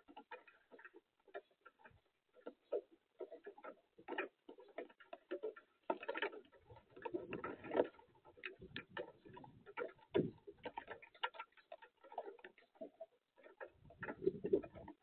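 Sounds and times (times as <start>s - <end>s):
raindrops ticking on wood: 0.0s - 15.0s.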